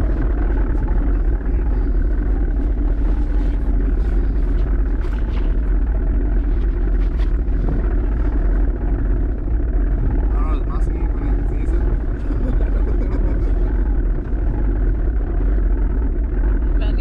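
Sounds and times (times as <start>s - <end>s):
motorboat engine rumble: 0.0s - 17.0s
wind buffeting microphone: 0.0s - 17.0s.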